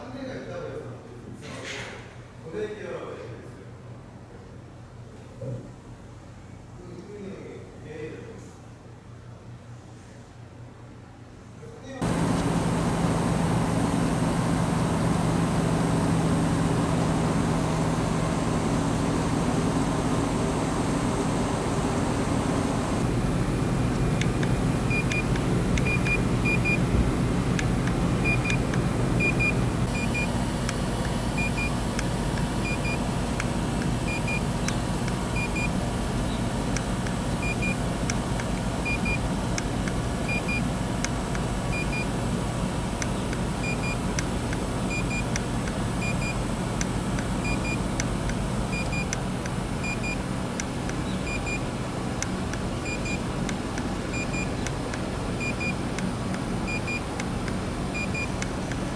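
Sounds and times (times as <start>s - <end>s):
air conditioner unit humming: 0.0s - 58.9s.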